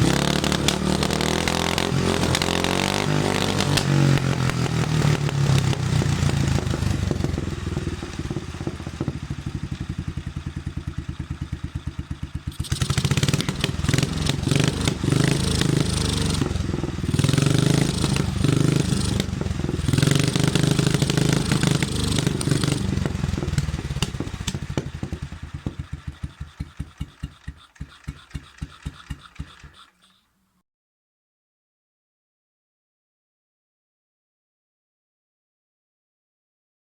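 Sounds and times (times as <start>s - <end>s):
motorcycle engine idling and revving: 0.0s - 30.3s.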